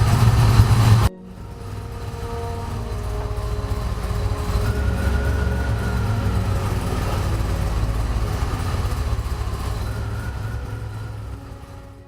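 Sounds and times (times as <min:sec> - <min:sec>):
car engine running: 0:00.0 - 0:12.0
faint engine whine: 0:00.0 - 0:12.0.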